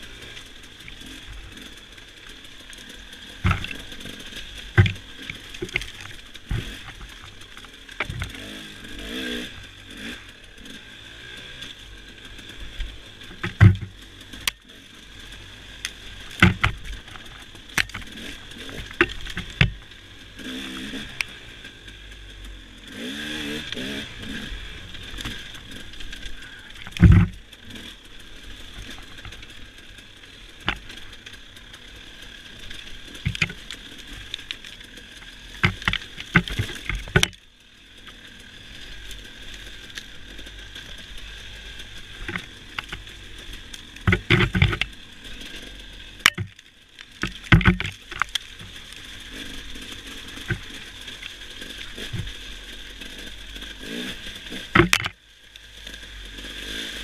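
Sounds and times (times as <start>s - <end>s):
knocks and thumps over bumps: 0.0s - 9.7s, 12.6s - 14.6s, 15.8s - 21.3s, 23.7s - 31.9s, 32.5s - 38.2s, 39.0s - 55.2s
dirt bike engine revving: 0.0s - 57.0s.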